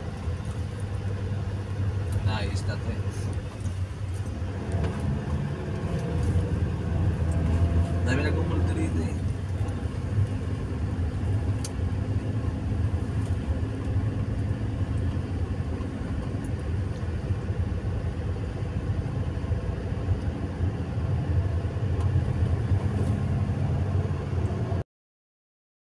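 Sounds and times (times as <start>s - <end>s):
car engine and road noise: 0.0s - 24.8s.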